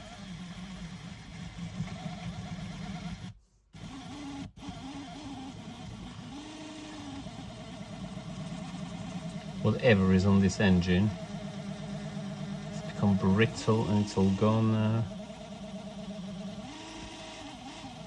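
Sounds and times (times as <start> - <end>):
small electric motor humming: 0.0 - 18.0.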